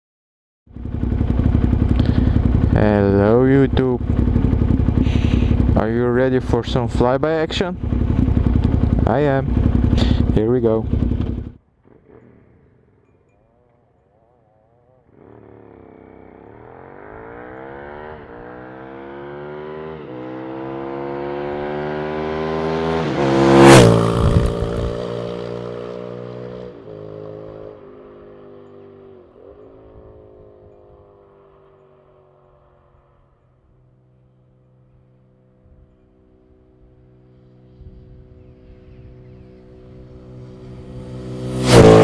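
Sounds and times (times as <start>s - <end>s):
motorcycle passing with gear changes: 0.7s - 42.0s.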